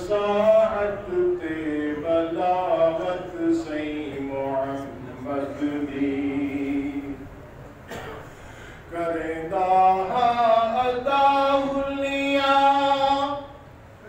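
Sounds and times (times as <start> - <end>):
man chanting devotional poem: 0.0 - 7.2, 8.9 - 13.6.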